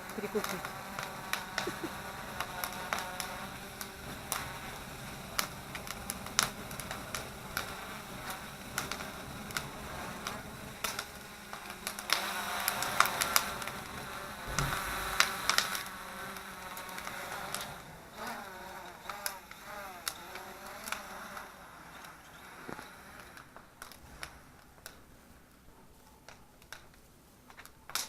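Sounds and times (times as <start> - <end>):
quadcopter rotors whining: 0.0 - 25.0
campfire crackling and popping: 0.0 - 28.0.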